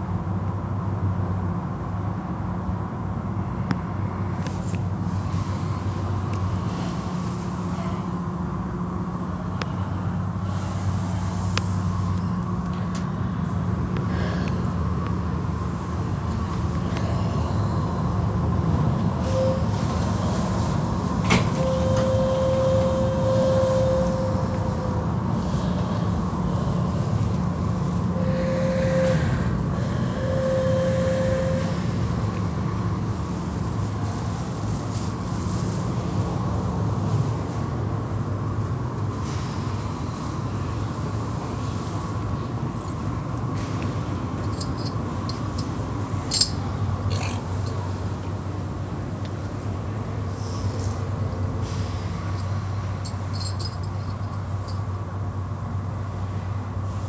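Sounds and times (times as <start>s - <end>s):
car wash machinery rumbling: 0.0s - 57.0s
low motor and pump hum: 0.0s - 57.0s.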